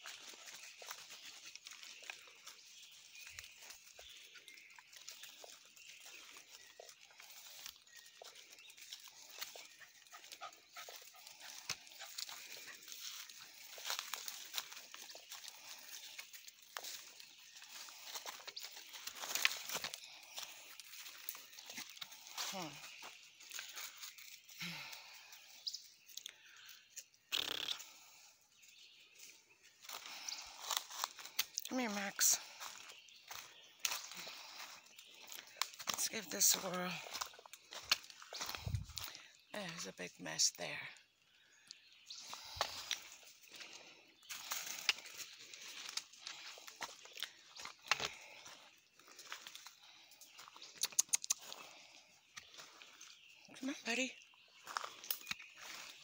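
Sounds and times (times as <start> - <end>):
footsteps through leafy undergrowth: 0.0 - 25.9, 28.7 - 40.9, 41.8 - 50.8, 51.4 - 56.0
faint bird chirps: 0.0 - 56.0.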